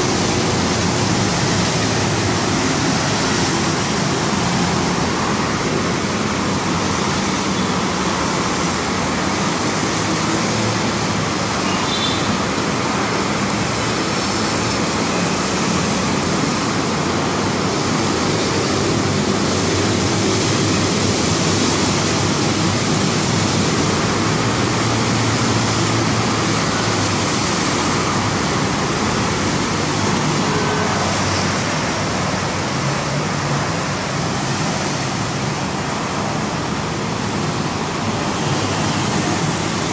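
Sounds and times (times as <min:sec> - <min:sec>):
road traffic rushing: 0:00.0 - 0:39.9.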